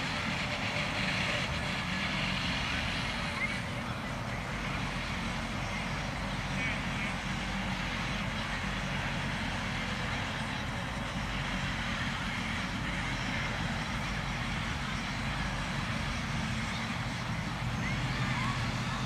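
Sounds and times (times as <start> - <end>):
faint distant voices: 0.0 - 19.0.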